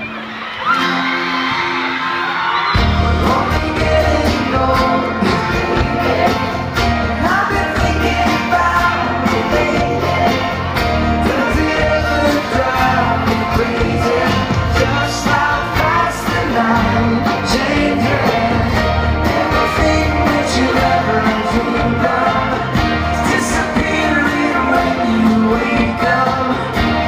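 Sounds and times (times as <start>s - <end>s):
live band playing pop ballad: 0.0s - 27.0s
person singing: 2.8s - 27.0s.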